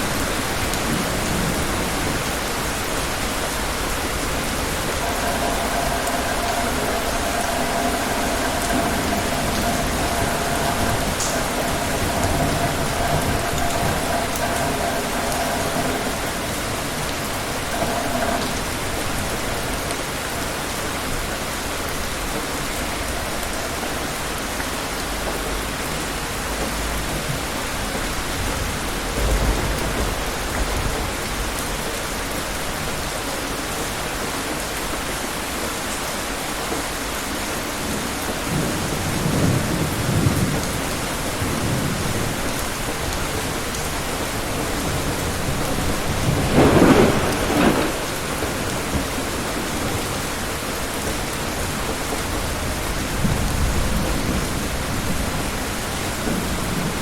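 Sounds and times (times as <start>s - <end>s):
thunder rumbling: 0.0s - 33.2s, 37.6s - 57.0s
heavy rain falling: 0.0s - 57.0s.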